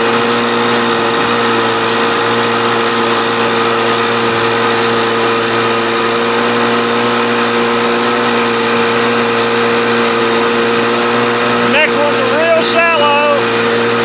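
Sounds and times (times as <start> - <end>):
jet ski engine running: 0.0 - 14.0.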